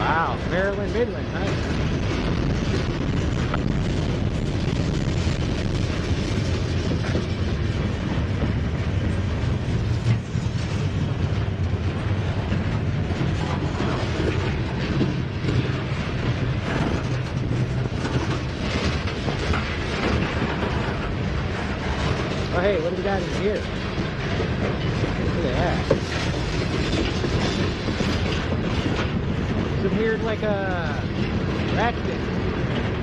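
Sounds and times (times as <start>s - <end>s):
steel wheels rumbling on rail: 0.0s - 33.0s.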